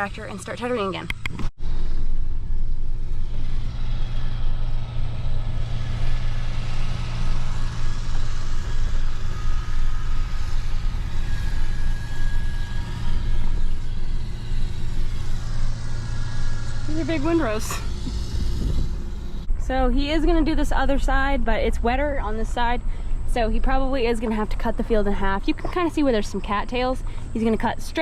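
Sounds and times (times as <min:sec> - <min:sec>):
vehicle engine running steadily: 0:00.0 - 0:28.0.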